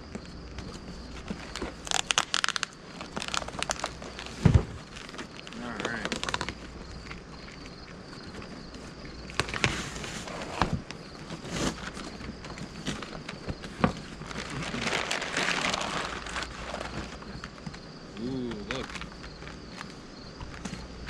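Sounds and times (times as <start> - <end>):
cardboard packaging rustling: 0.2 - 21.0.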